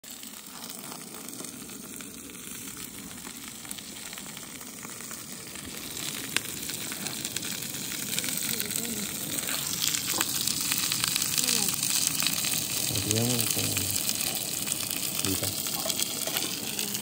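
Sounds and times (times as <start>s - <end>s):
steaks sizzling in a skillet: 0.1s - 17.0s.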